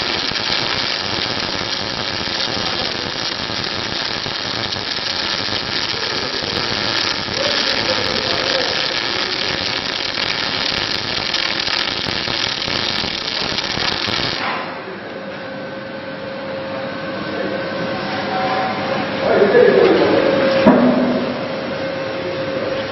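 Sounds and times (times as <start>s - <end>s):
welding machinery running: 0.0s - 15.0s, 18.1s - 22.9s.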